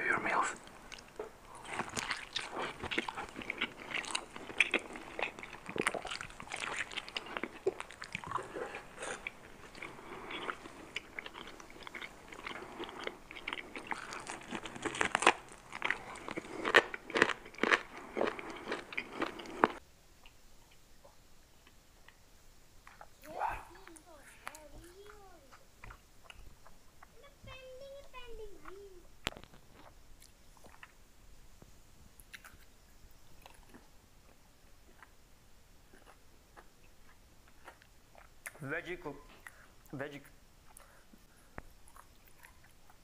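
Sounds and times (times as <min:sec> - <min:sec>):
crunching and chewing: 0:00.2 - 0:20.8, 0:22.8 - 0:27.2, 0:28.1 - 0:31.0, 0:32.2 - 0:38.7, 0:40.6 - 0:43.0.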